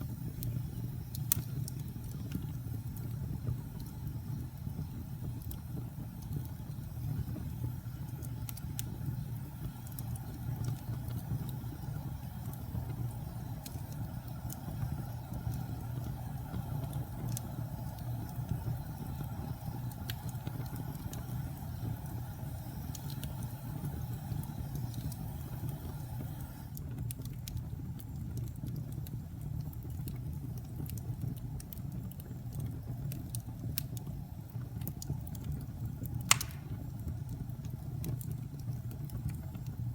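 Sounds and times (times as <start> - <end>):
fire crackles and pops: 0.0 - 39.9
fire flames rumbling: 0.0 - 39.9.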